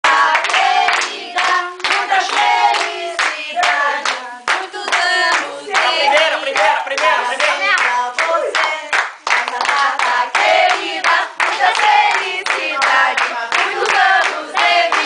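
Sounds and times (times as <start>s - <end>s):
group of people singing together: 0.0s - 15.0s
rhythmic hand clapping: 0.0s - 15.0s.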